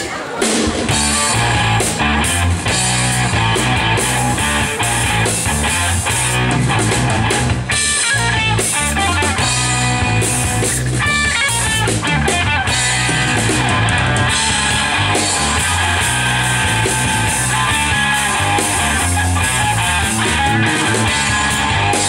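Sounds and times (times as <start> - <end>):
drum kit: 0.0 - 22.0
electric bass: 0.9 - 22.0
electric guitar melody: 0.9 - 22.0.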